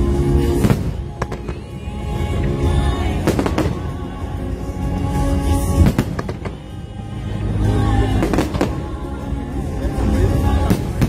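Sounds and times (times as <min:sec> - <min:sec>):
show music over outdoor speakers: 0:00.0 - 0:11.0.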